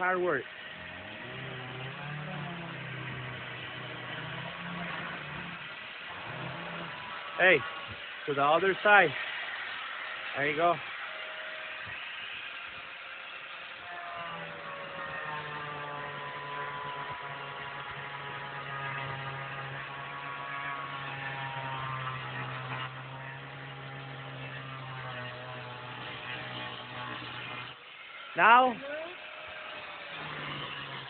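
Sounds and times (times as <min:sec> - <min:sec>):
power tool motor cutting: 0:00.0 - 0:31.0.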